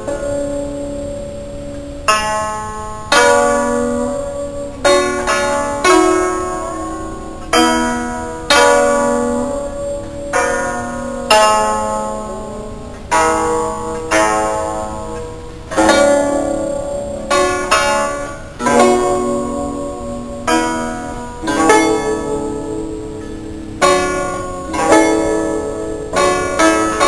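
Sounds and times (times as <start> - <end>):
plucked zither: 0.0 - 27.0.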